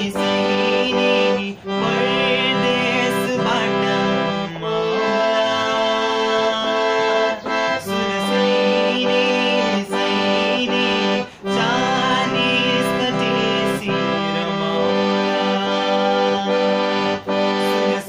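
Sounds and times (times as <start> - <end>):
harmonium playing chords: 0.0 - 18.0
young man singing: 0.0 - 18.0.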